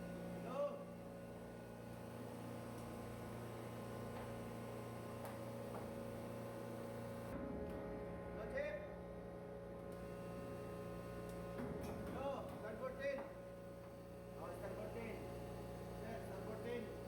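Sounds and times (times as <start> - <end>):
steady machinery hum: 0.0 - 17.0.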